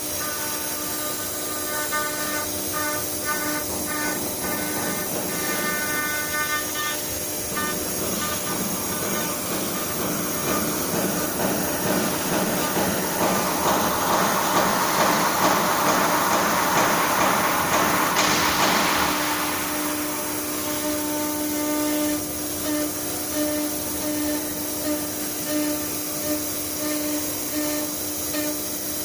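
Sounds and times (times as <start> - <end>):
hiss of cutting wood: 0.0 - 29.0.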